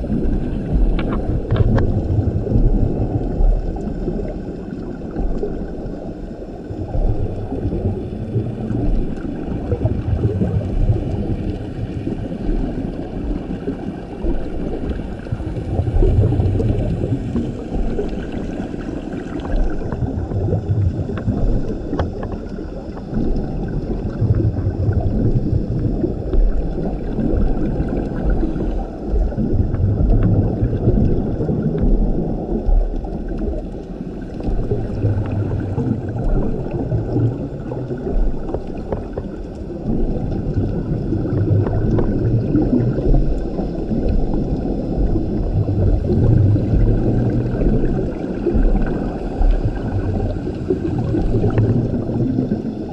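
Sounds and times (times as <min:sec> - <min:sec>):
bubbly hiss and crackle: 0:00.0 - 0:52.9
regulator bubbles rumbling: 0:00.0 - 0:52.9.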